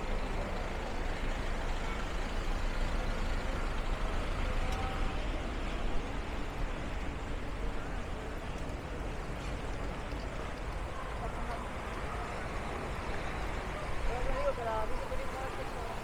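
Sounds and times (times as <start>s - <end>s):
street noise: 0.0s - 16.0s
vehicle engine low rumble: 0.0s - 16.0s.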